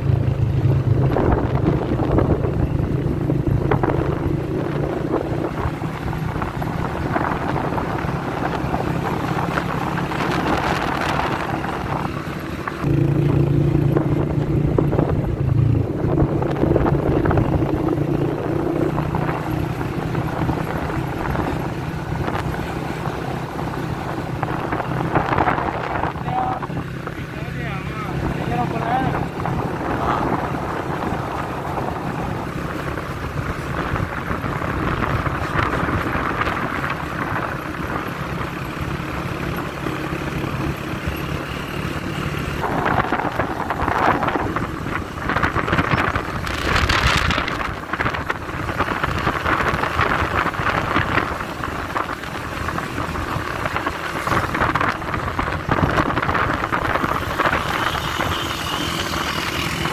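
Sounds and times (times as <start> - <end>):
vehicle engine running: 0.0 - 59.9
wind rushing over microphone: 0.0 - 59.9.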